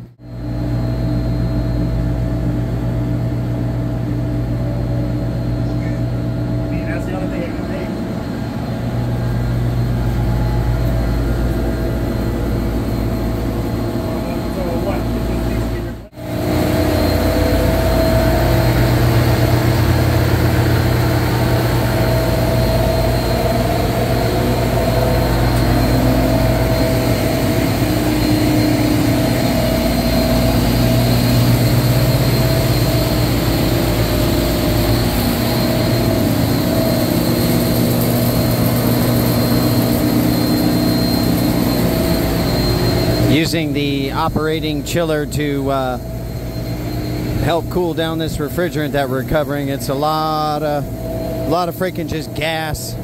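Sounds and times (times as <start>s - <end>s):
chiller fans and compressors droning: 0.0s - 53.0s
humming tones: 0.0s - 53.0s.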